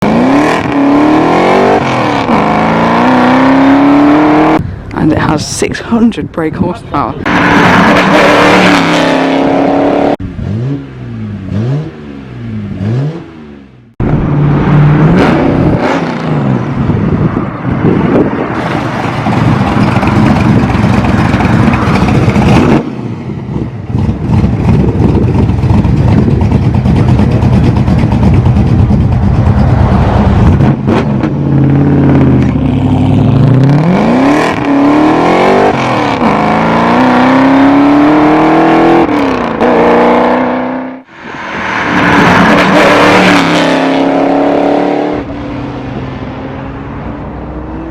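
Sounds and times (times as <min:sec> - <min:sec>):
car engine revving: 0:00.0 - 0:04.6, 0:07.2 - 0:47.9.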